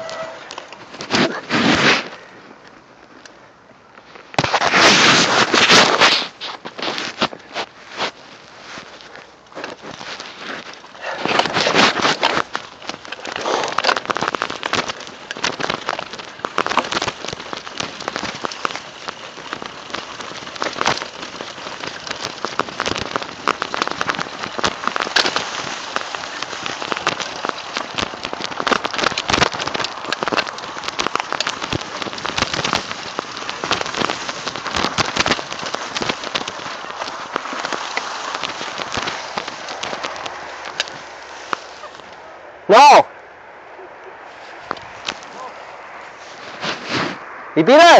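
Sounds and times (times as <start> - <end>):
grass swishing against bike: 0.0 - 2.2, 4.3 - 42.3, 44.2 - 47.2
bike rattling and knocking: 0.0 - 3.3, 4.4 - 42.3, 44.6 - 45.6.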